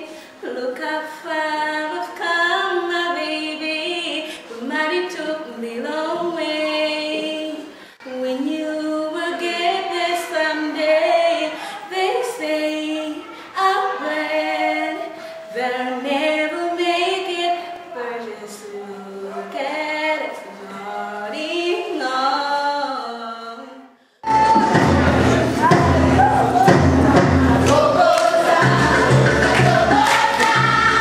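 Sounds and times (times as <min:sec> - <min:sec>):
group singing unaccompanied: 0:00.0 - 0:22.4, 0:24.2 - 0:31.0
woman singing lead: 0:00.0 - 0:31.0.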